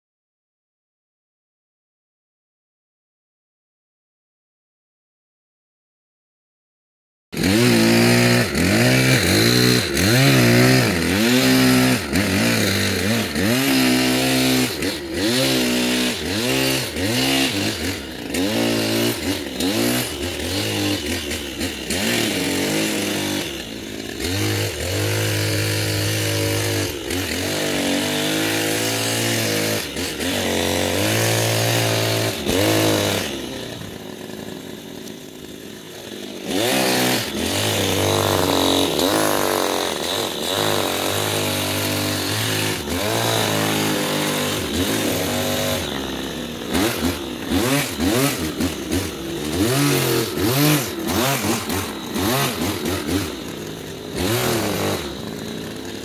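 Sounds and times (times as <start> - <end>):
hedge trimmer engine revving: 7.4 - 56.0.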